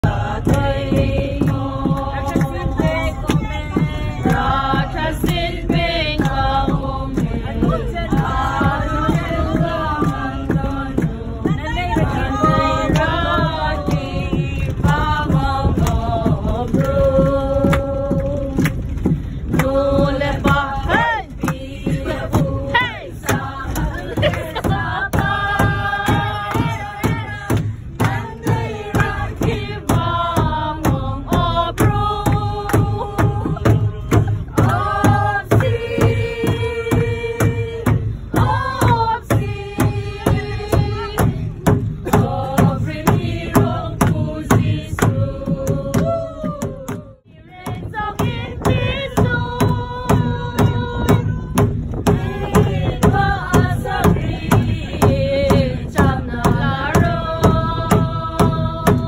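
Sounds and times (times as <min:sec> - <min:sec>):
bus low rumble: 0:00.0 - 0:59.0
group singing a carol: 0:00.0 - 0:59.0.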